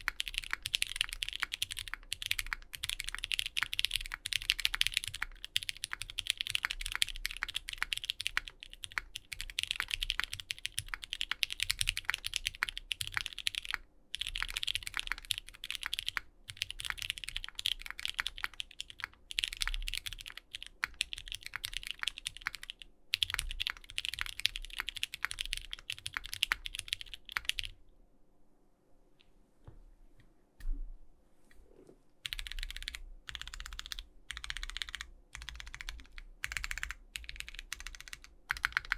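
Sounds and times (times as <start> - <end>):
mechanical keyboard typing: 0.0 - 27.7, 32.2 - 38.9.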